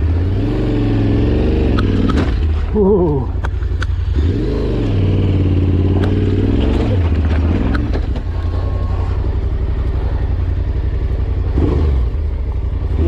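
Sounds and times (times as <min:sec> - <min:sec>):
motorcycle engine revving uphill: 0:00.0 - 0:13.0.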